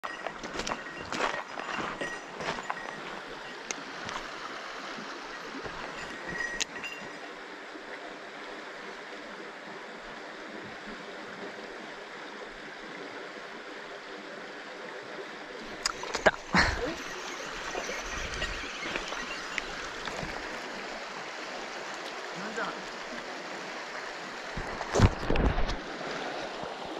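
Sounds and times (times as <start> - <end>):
stream running over stones: 0.0 - 26.9.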